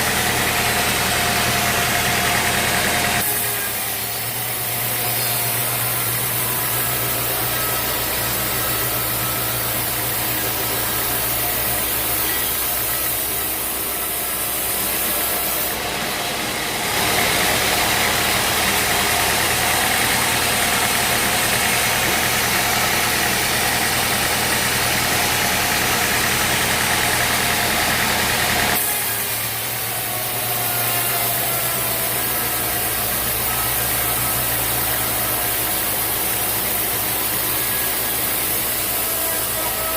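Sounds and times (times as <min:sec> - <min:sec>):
loud hiss: 0:00.0 - 0:15.8, 0:16.8 - 0:39.9
sawmill engine hum: 0:00.0 - 0:39.9.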